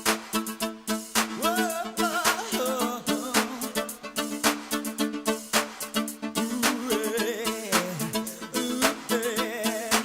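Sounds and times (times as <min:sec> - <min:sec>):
held synth chords: 0:00.0 - 0:09.8
instrumental pop music: 0:00.0 - 0:10.0
steady drum beat: 0:00.0 - 0:10.0.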